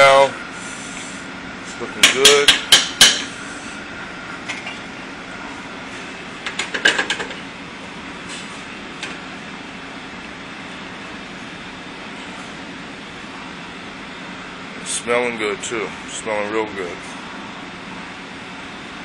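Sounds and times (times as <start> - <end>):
kitchen background hum: 0.0 - 19.0.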